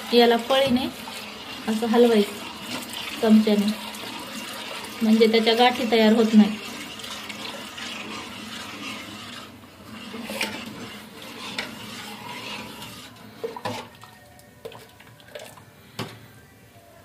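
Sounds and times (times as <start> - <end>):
ladle stirring and scraping pot: 0.0 - 16.2.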